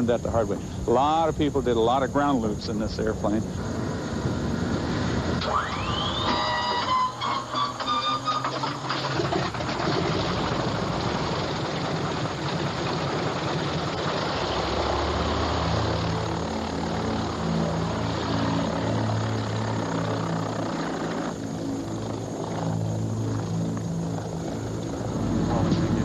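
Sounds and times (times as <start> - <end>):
radial engine starting and running: 0.0 - 26.0.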